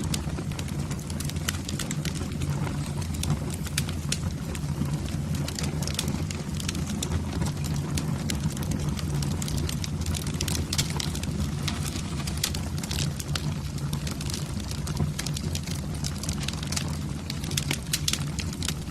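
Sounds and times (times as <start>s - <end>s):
fire low rumble: 0.0s - 18.9s
wood fire crackling and popping: 0.0s - 18.9s.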